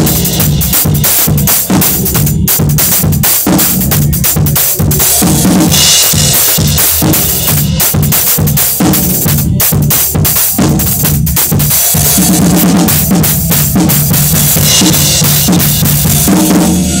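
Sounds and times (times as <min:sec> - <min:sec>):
drum kit groove: 0:00.0 - 0:17.0.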